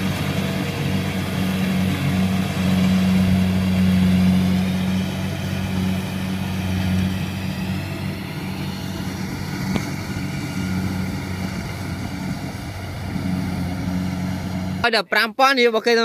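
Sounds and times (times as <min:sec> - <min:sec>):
harvester engine droning: 0:00.0 - 0:15.1.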